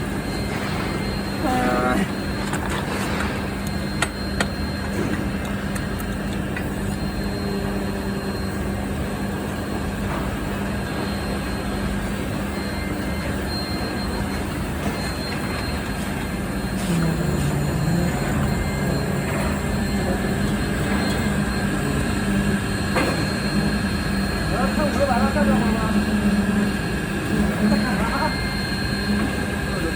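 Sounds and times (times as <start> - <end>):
heavy factory machinery humming: 0.0 - 29.9.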